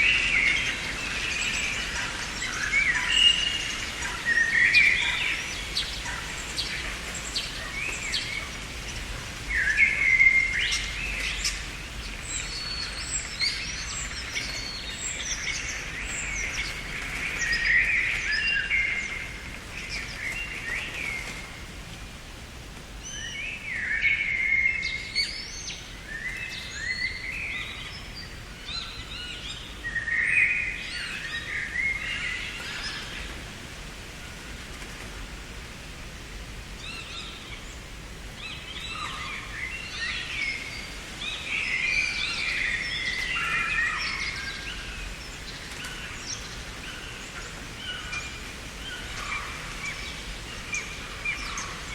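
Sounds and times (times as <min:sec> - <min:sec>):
songbirds singing and chirping: 0:00.0 - 0:51.9
steady background hiss: 0:00.0 - 0:51.9.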